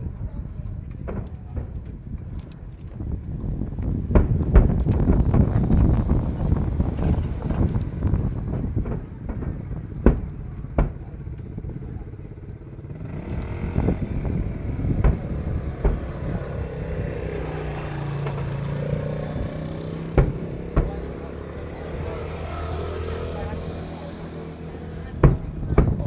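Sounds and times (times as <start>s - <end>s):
street traffic rumble: 0.0s - 26.0s
sharp bangs: 0.7s - 26.0s
engine droning: 2.3s - 26.0s.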